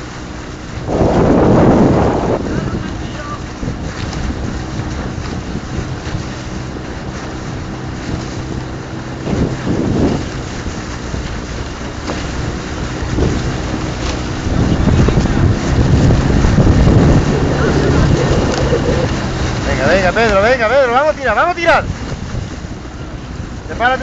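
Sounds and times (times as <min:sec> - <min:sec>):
outboard motor running: 0:00.0 - 0:24.0
water rushing past hull: 0:00.0 - 0:24.0
wind buffeting microphone: 0:00.0 - 0:24.0.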